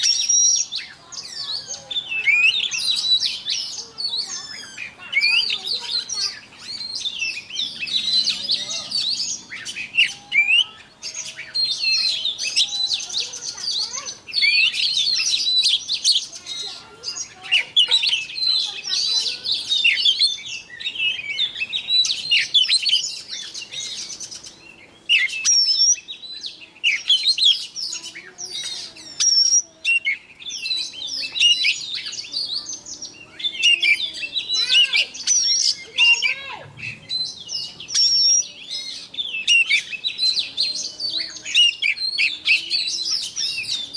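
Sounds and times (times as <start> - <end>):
bird singing whistles and trills: 0.0 - 43.9.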